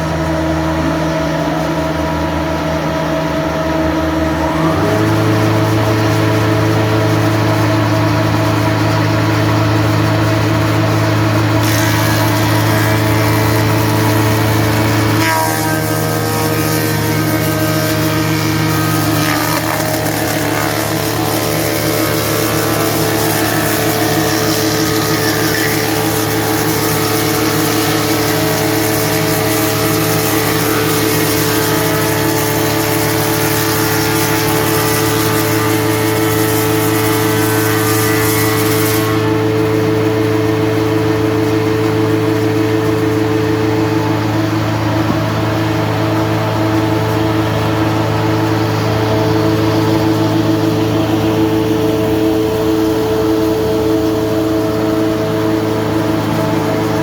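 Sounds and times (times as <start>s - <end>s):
cutter heads planing timber: 0.0s - 57.0s
planer motors humming: 0.0s - 57.0s.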